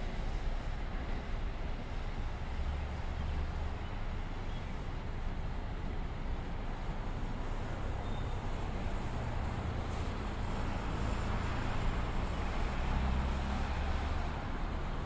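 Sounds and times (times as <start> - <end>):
vehicle noise rumble and hiss: 0.0 - 15.0.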